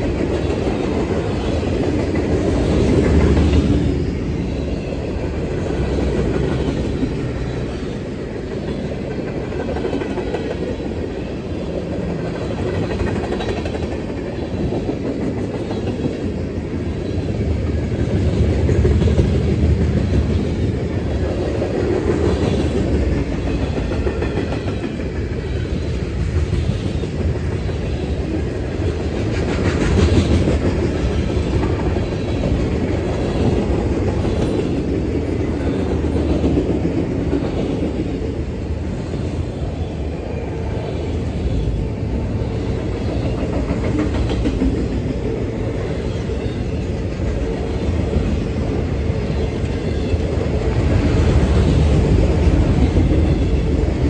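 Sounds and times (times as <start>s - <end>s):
train wheels rumbling and clacking: 0.0s - 54.0s.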